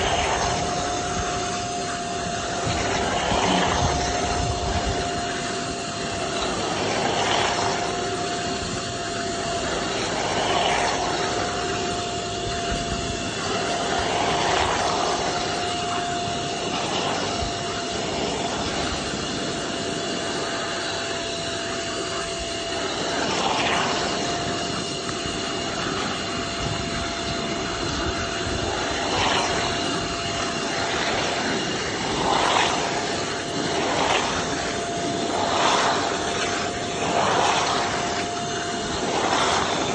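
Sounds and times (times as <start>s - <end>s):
vacuum motor whining: 0.0s - 39.9s
water sucking surges: 0.0s - 39.9s.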